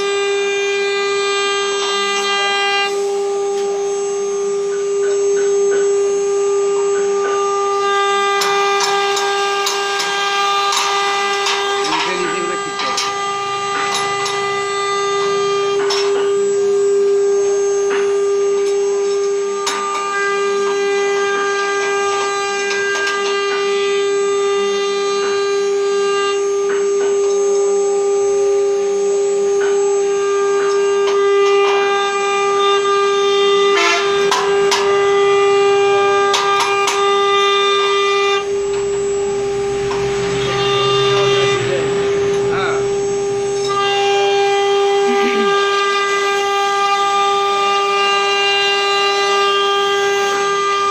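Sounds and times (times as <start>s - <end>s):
motor tones shifting pitch: 0.0s - 50.9s
router spindle whine: 0.0s - 50.9s.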